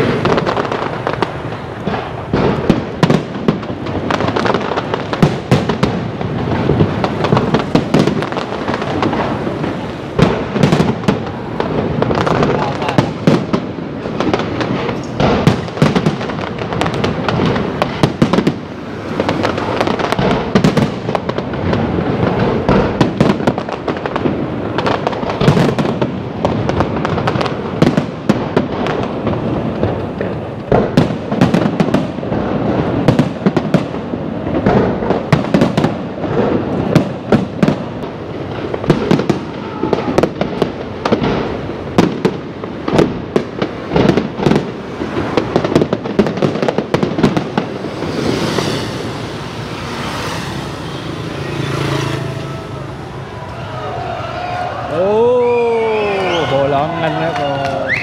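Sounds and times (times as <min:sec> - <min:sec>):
fireworks bangs: 0:00.0 - 0:58.0
fireworks crackle: 0:00.0 - 0:58.0.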